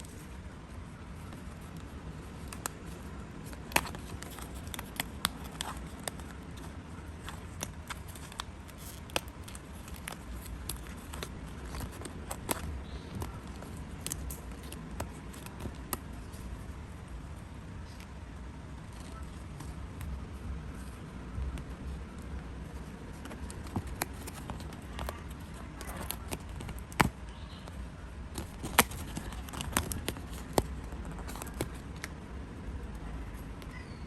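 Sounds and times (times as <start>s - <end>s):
paper being cut and handled: 0.0s - 16.6s, 18.8s - 32.1s
low background hum: 0.0s - 34.0s.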